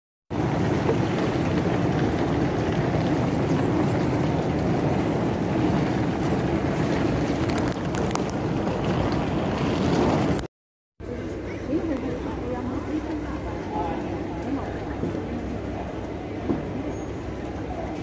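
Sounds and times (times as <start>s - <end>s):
busy terminal hall rumble: 0.3s - 10.4s, 11.0s - 18.0s.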